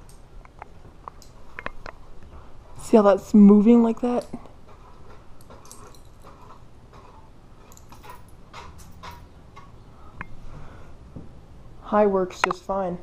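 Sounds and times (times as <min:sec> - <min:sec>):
ceiling fan hum: 0:00.0 - 0:13.0.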